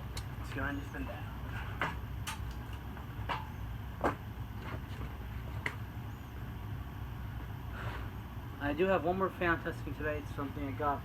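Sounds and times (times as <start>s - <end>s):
ceiling fan low rumble: 0.0s - 11.0s.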